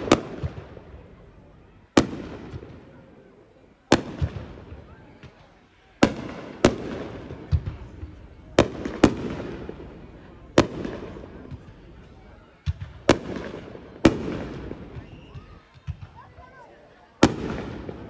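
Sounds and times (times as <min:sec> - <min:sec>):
fireworks bursting with rumble: 0:00.0 - 0:16.5, 0:17.2 - 0:18.0.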